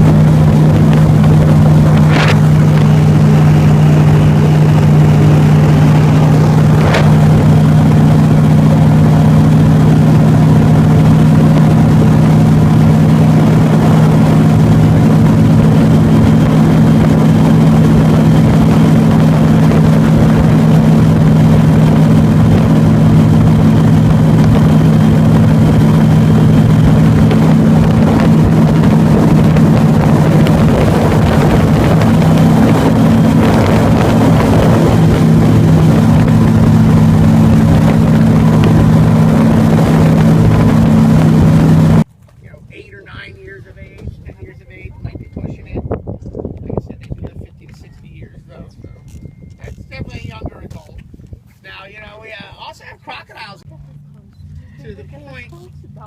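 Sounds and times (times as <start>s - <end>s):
airboat engine drone: 0.0s - 56.0s.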